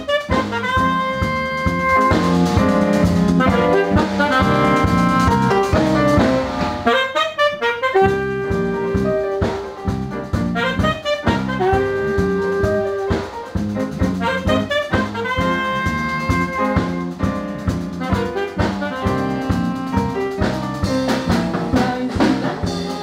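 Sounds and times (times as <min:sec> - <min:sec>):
bass: 0:00.0 - 0:23.0
drum kit: 0:00.0 - 0:23.0
piano: 0:00.0 - 0:23.0
saxophone melody: 0:00.0 - 0:23.0.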